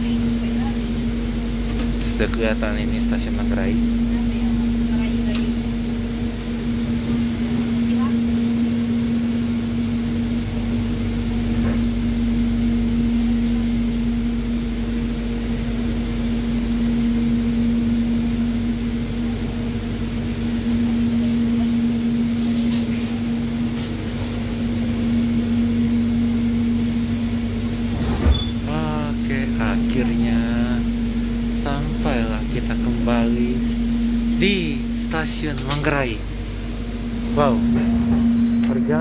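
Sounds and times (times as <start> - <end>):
train cabin rumble: 0.0 - 39.0.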